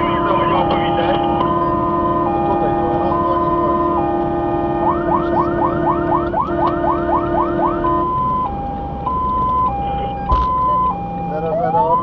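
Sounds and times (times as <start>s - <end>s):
fire engine siren: 0.0s - 12.0s.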